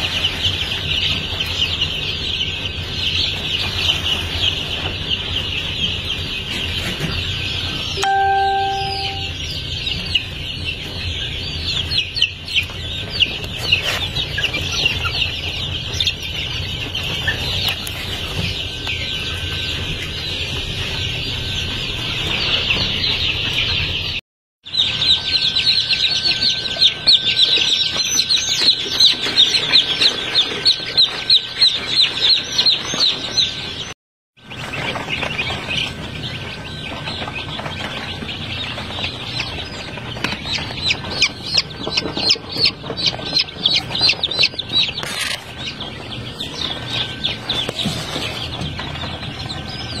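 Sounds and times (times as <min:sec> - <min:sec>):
chicks peeping: 0:00.0 - 0:50.0.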